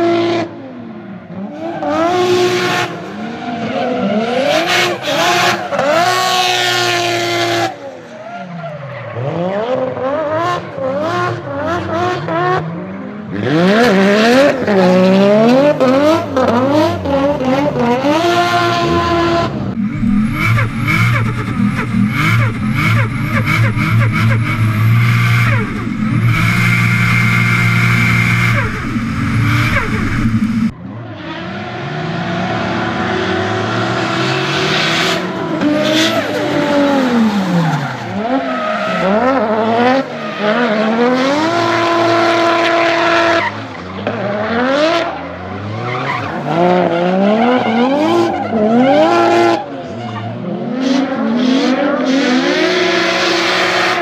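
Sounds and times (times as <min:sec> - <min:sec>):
car engine revving: 0:00.0 - 0:07.9, 0:09.2 - 0:54.0.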